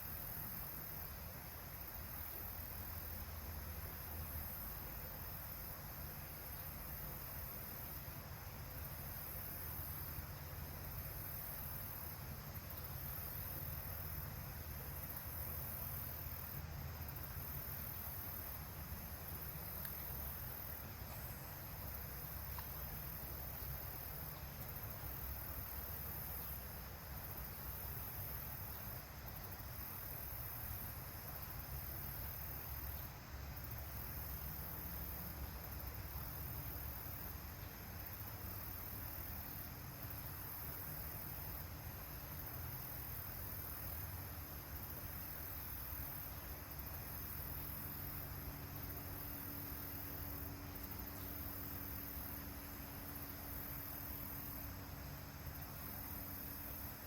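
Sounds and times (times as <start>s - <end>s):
low rumble and hiss: 0.0s - 57.0s
insect chirring: 8.7s - 57.0s.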